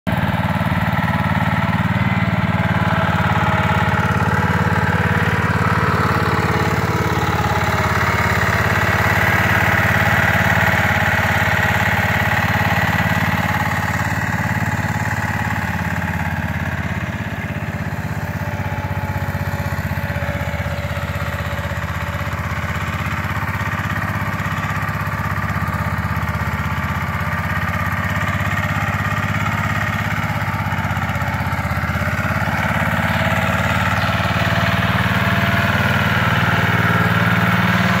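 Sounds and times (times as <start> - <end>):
garden tractor engine running: 0.1 - 38.0.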